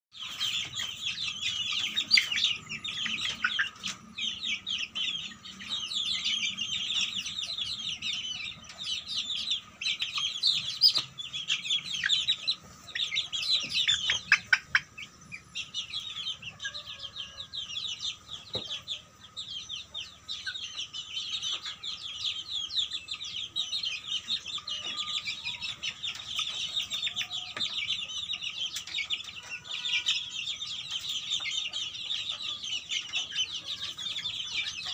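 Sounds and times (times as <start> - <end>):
chicks peeping and chirping: 0.1 - 34.9.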